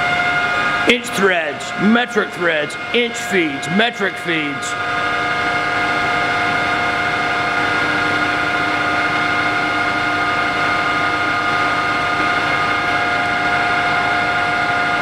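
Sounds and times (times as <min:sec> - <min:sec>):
lathe running with steady whine: 0:00.0 - 0:15.0.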